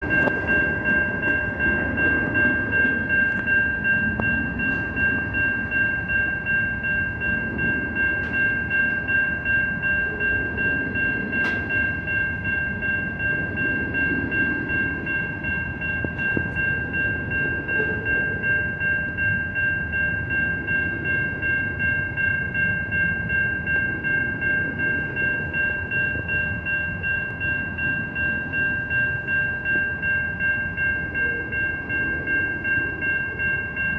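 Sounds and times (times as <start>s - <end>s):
level crossing bell ringing: 0.0s - 33.9s
train passing rumble: 0.0s - 33.9s.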